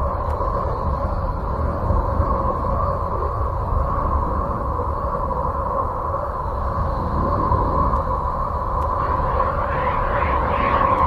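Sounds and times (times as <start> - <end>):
rumbling hissing drone: 0.0 - 11.0.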